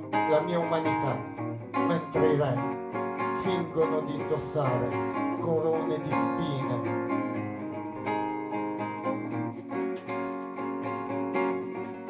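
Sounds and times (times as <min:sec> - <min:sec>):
fingerstyle acoustic guitar: 0:00.0 - 0:12.0.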